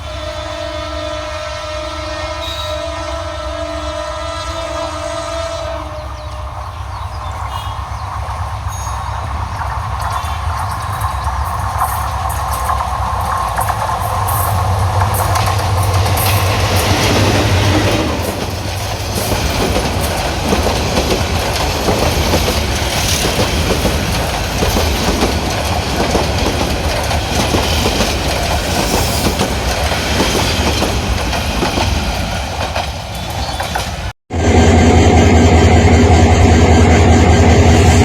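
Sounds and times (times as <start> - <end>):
train wheels clattering on track: 6.1 - 38.0.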